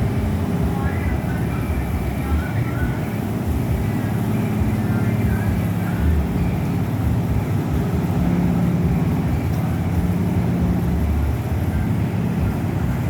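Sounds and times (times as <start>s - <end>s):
machinery rumble and hum: 0.0s - 13.0s.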